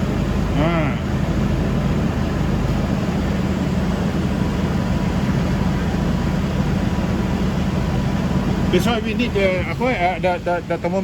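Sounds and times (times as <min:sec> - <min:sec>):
air conditioning rushing: 0:00.0 - 0:11.0
car engine idling: 0:00.0 - 0:11.0.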